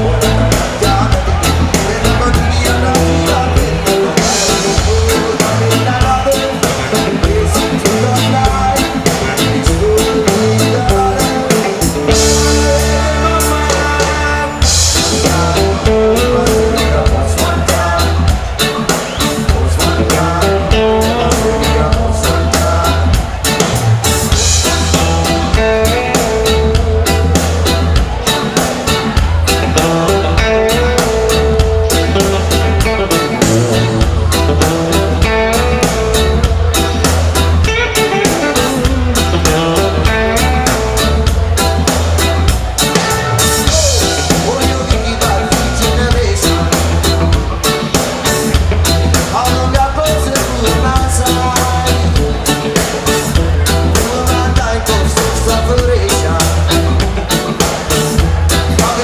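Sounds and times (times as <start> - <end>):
man singing: 0.0 - 36.8, 37.6 - 41.8, 42.9 - 59.0
reggae band playing: 0.0 - 59.0.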